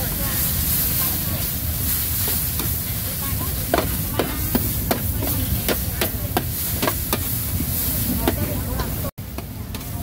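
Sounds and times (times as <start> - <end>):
food sizzling: 0.0 - 9.2.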